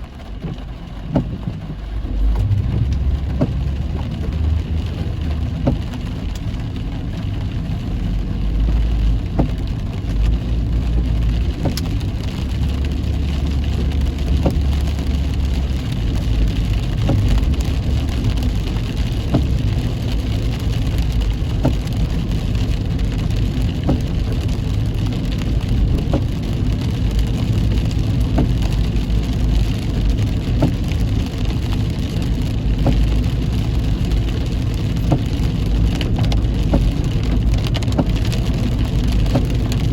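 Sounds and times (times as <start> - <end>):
car driving on wet road: 0.0 - 39.9
heavy rain on car: 0.0 - 39.9
raindrop ticks: 0.0 - 39.9.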